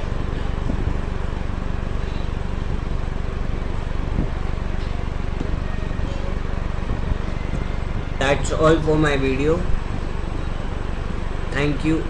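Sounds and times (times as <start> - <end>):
low hum: 0.0 - 12.0
steady background hiss: 0.0 - 12.0.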